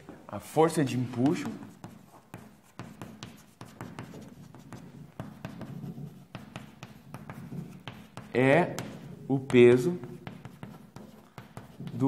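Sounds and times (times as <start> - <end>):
chalk tapping and scraping: 0.1 - 12.0.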